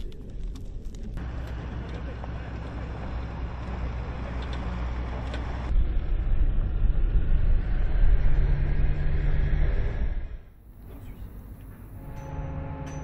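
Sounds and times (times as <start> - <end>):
military vehicle engine rumbling: 0.0 - 13.0.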